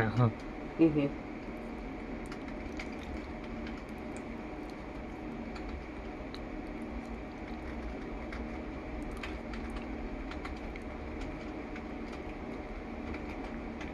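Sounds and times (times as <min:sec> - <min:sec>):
low electrical hum: 0:00.0 - 0:13.9.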